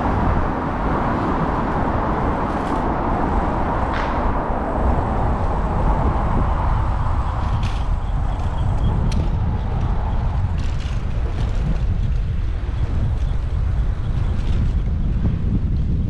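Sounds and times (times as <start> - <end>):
passing traffic: 0.0 - 16.0
wind rush on microphone: 0.0 - 16.0.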